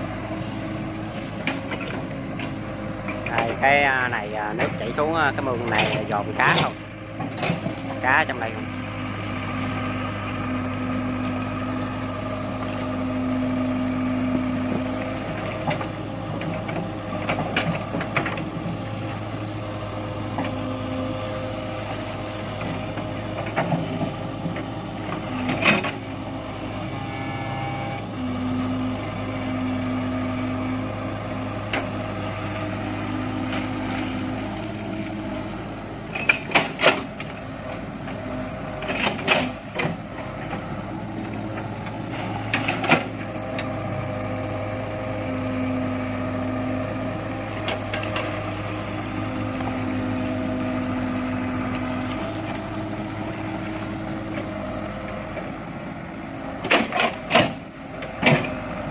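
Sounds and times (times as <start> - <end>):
excavator engine under load: 0.0 - 58.9.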